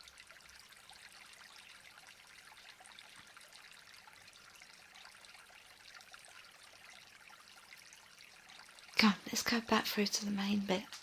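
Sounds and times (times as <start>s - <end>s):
running and trickling water: 0.0s - 11.0s.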